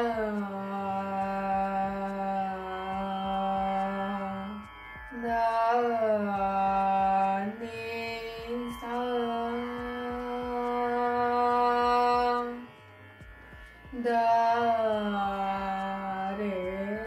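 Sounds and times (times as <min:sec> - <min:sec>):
voice chanting devotional melody: 0:00.0 - 0:17.0.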